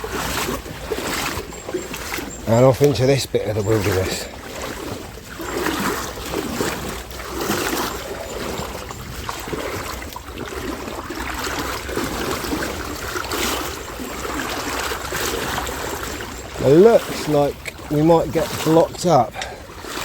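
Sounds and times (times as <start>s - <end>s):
water splashing around wading legs: 0.0s - 20.0s.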